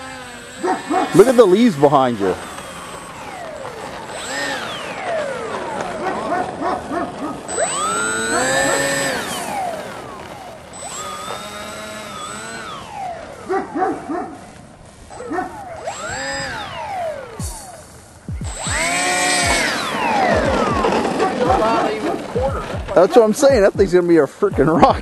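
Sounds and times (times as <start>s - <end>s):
quick short motor blips: 0.0s - 23.5s
electric motors whining: 0.0s - 25.0s.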